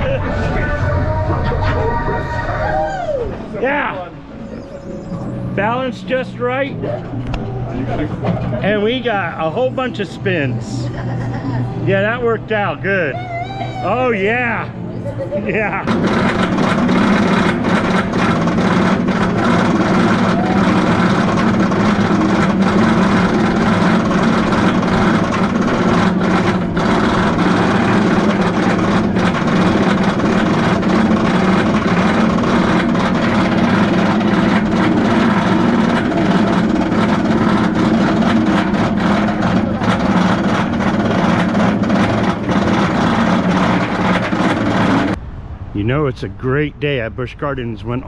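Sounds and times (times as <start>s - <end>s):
roller coaster lift drone: 0.0s - 46.5s.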